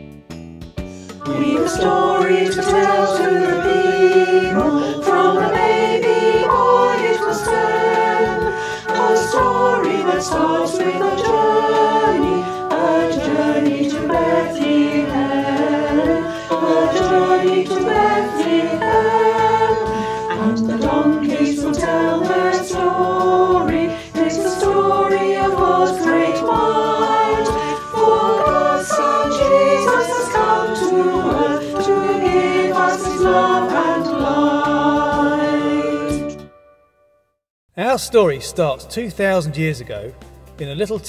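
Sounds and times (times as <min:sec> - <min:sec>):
choir singing: 0:01.2 - 0:36.5.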